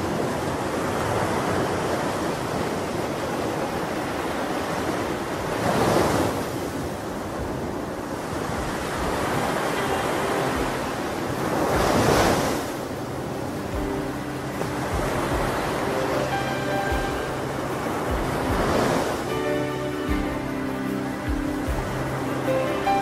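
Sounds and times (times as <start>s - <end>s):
large waves breaking: 0.0s - 23.0s
ocean waves washing: 0.0s - 23.0s.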